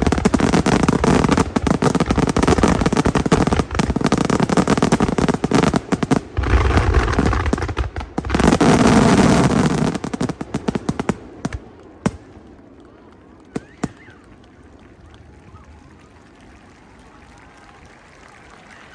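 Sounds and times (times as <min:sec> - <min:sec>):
fireworks crackling and booming: 0:00.0 - 0:18.9.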